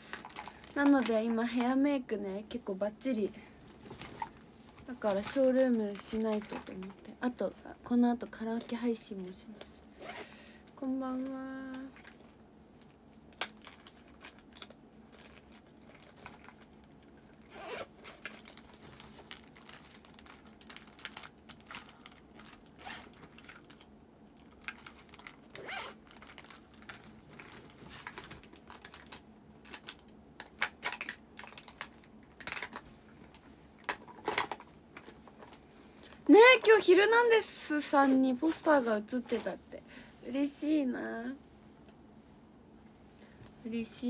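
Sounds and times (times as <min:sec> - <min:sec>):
objects rustling and crinkling: 0:00.0 - 0:07.6, 0:08.2 - 0:39.6.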